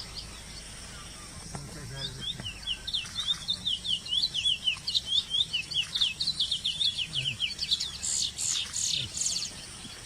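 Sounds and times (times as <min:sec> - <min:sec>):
finch singing whistled notes: 0:00.0 - 0:10.0.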